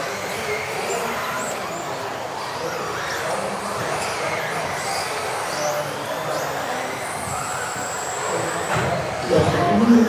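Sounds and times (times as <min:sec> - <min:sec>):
rc car motors whining: 0:00.0 - 0:10.0.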